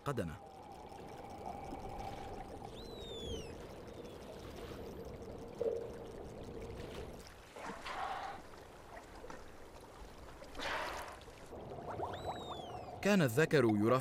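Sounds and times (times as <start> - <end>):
sea water washing: 0.0 - 14.0
water bubbling and splashing: 0.0 - 14.0.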